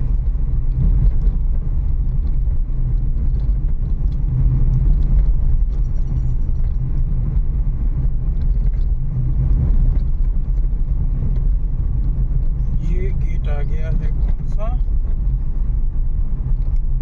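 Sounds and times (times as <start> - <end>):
tyres and suspension rumbling: 0.0 - 17.0.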